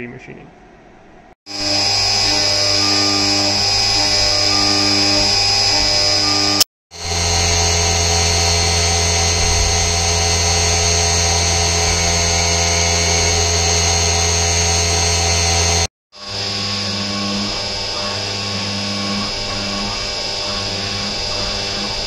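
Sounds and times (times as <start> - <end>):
milling machine spindle whine: 1.5 - 22.0.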